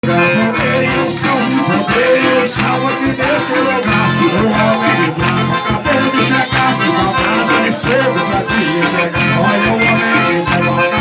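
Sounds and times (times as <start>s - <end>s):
band playing upbeat chorus music: 0.0s - 11.0s.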